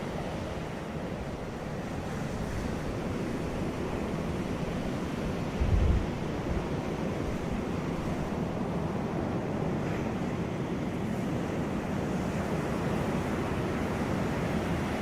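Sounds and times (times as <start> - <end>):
sea surf washing onto beach: 0.0 - 15.0
wind rumble on microphone: 2.2 - 15.0.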